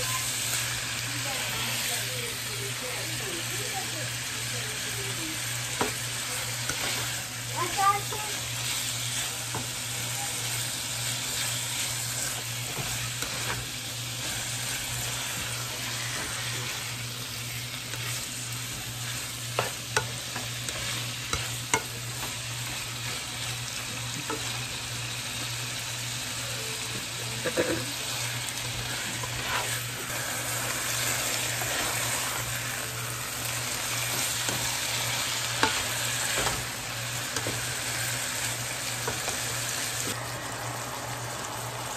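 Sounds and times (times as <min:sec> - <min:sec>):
chicken sizzling in a frying pan: 0:00.0 - 0:41.9.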